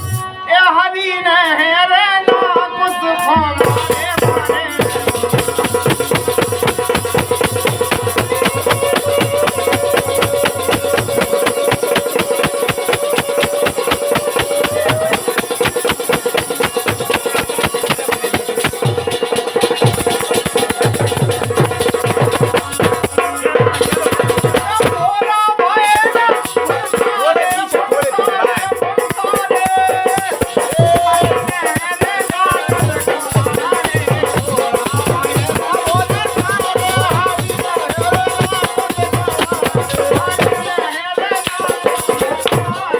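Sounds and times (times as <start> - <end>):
rattling percussion and drums: 2.9 - 42.9.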